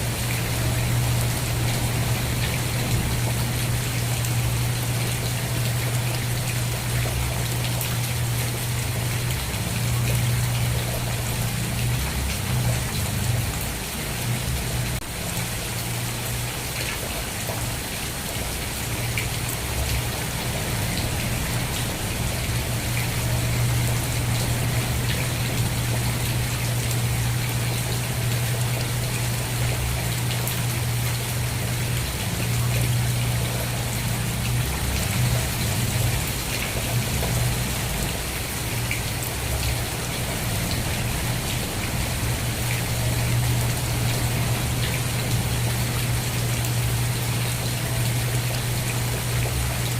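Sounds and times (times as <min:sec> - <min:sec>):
constant low hum: 0:00.0 - 0:49.9
steady rain: 0:00.0 - 0:49.9.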